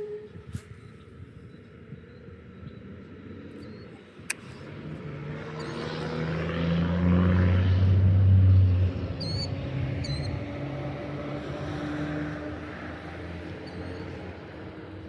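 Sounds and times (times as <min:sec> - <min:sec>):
motor engine droning: 0:01.9 - 0:15.0.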